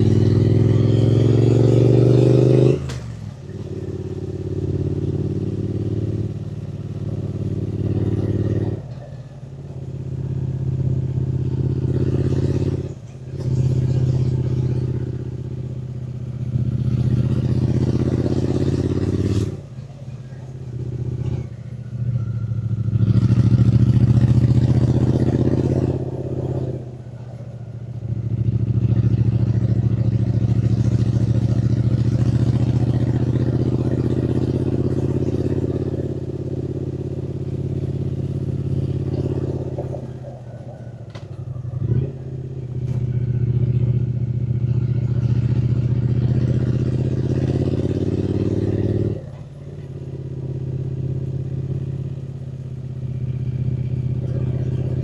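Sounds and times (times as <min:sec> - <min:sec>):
motorcycle engine under throttle: 0:00.0 - 0:55.0.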